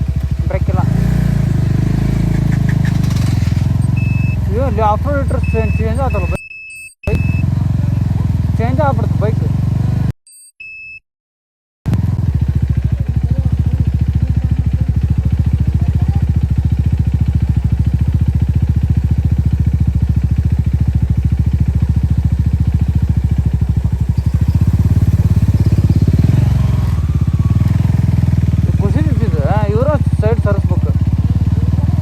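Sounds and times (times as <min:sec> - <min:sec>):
motorcycle engine running: 0:00.0 - 0:06.4, 0:07.1 - 0:10.1, 0:11.9 - 0:32.0.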